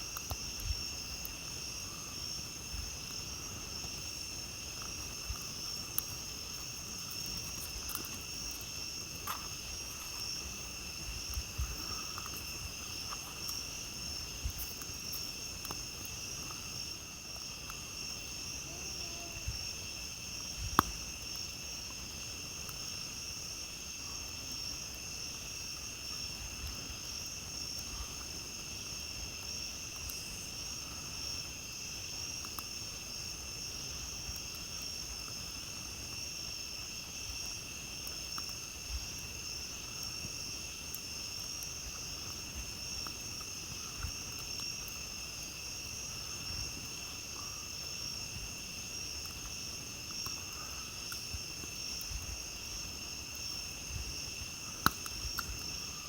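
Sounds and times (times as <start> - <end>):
campfire crackling: 0.0 - 56.0
night insects trilling: 0.0 - 56.0.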